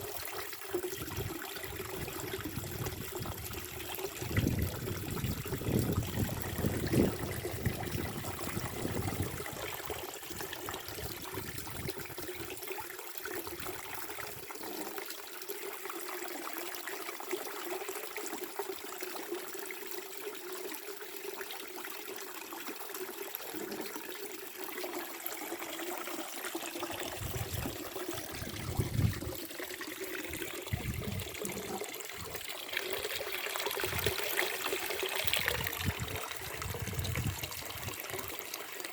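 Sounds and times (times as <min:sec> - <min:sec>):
spring water trickling: 0:00.0 - 0:15.0, 0:22.0 - 0:38.9.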